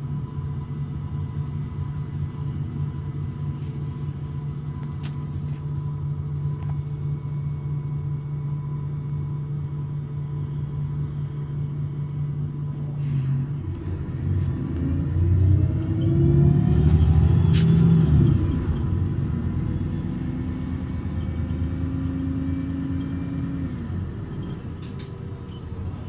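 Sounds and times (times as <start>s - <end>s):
bus engine idling and revving: 0.0s - 26.0s.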